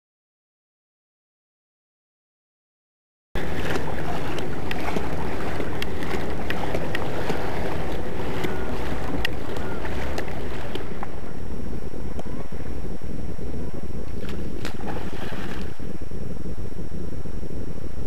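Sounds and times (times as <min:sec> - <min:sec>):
wind noise on microphone: 0:03.4 - 0:18.0.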